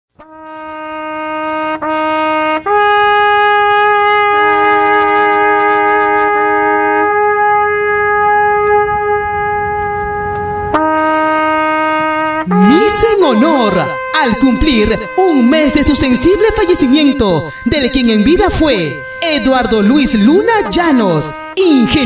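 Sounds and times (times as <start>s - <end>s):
mournful trumpet-like wind instrument: 0.2s - 22.0s
second lower wind instrument voice: 3.4s - 22.0s.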